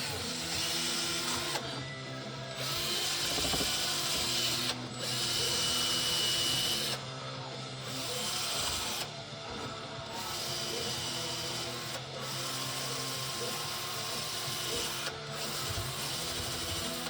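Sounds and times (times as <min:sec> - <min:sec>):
handheld power tool grinding: 0:00.0 - 0:17.0.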